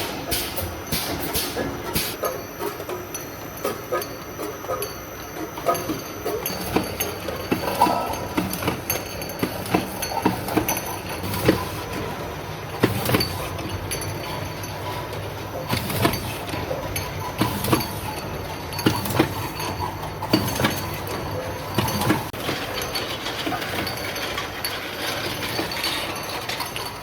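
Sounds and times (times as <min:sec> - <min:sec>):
packing machine humming and clicking: 0:00.0 - 0:27.0.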